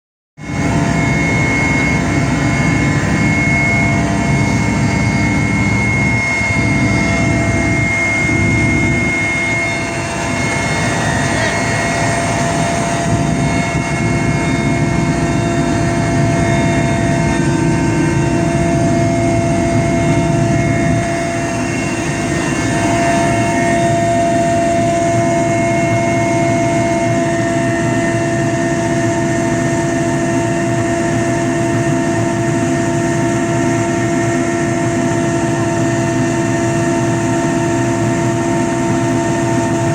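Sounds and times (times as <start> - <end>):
high whine: 0.4 - 36.0
helicopter engine and rotor noise: 0.4 - 39.9.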